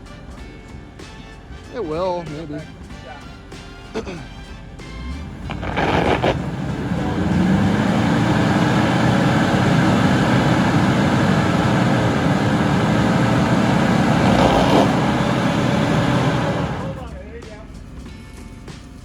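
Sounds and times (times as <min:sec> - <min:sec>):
suv engine running hard: 0:03.6 - 0:19.0.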